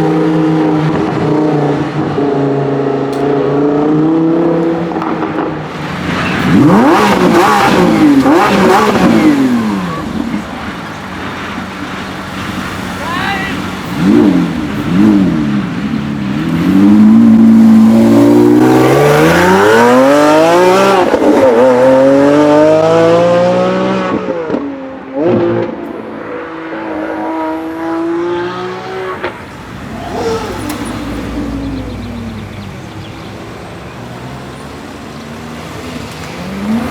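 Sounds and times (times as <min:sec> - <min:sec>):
car engine accelerating hard: 0:00.0 - 0:36.9.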